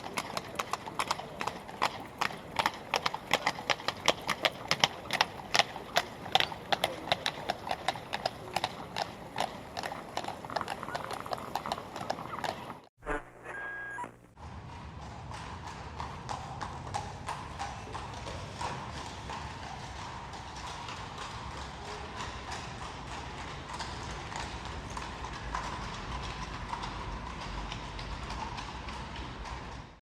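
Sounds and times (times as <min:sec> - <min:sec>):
carriage wheels rumbling: 0:00.0 - 0:12.9, 0:14.3 - 0:30.0
horse hooves clip-clopping on road: 0:00.0 - 0:12.9, 0:14.3 - 0:30.0.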